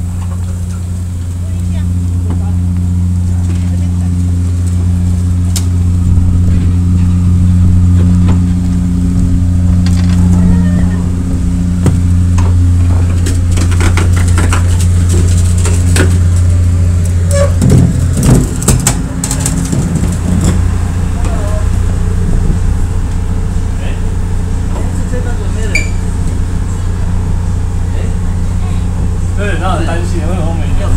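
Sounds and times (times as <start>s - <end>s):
ferry engine drone: 0.0s - 30.9s.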